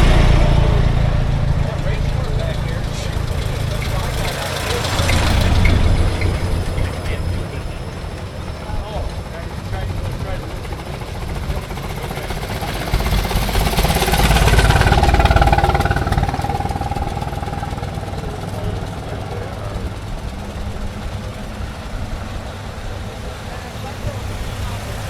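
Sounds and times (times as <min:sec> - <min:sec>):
old car driving past: 0:00.0 - 0:25.0.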